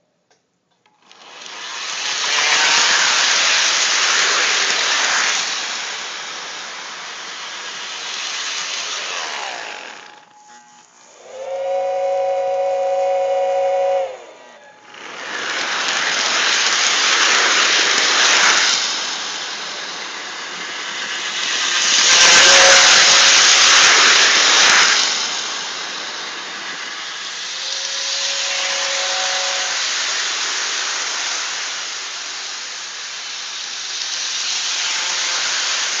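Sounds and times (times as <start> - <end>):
toy train running on track: 0.7 - 36.0.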